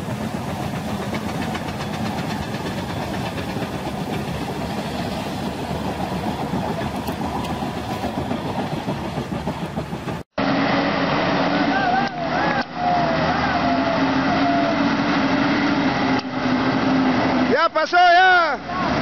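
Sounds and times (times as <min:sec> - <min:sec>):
diesel engines running: 0:00.0 - 0:17.9.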